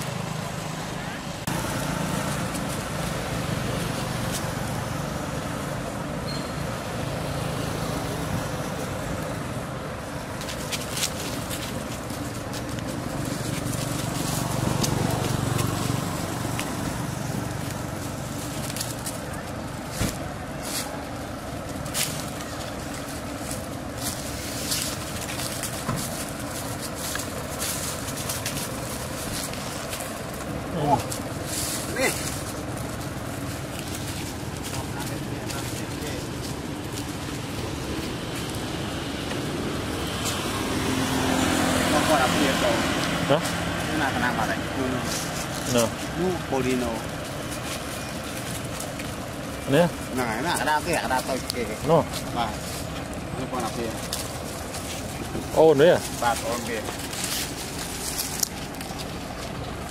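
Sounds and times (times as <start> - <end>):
footsteps crunching dry leaves: 0.0 - 59.9
road traffic drone: 0.0 - 59.9.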